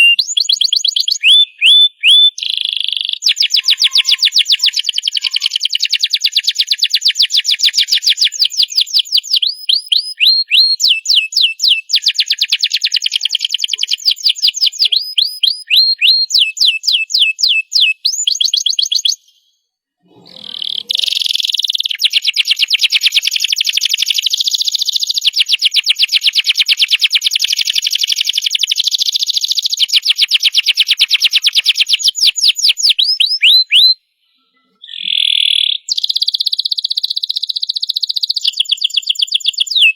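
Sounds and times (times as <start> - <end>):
canary singing trills: 0.0 - 19.5, 20.1 - 39.9.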